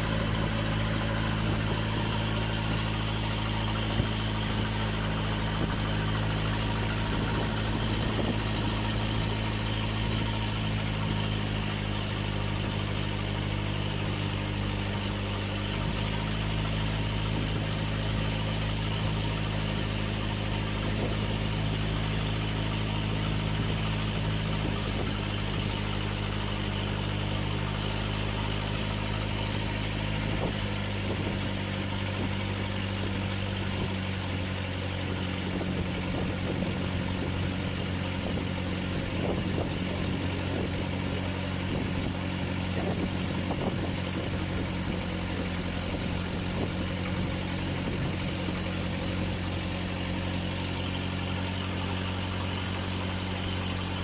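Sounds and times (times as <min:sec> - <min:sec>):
boat engine droning: 0:00.0 - 0:54.0
water rushing past hull: 0:00.0 - 0:54.0.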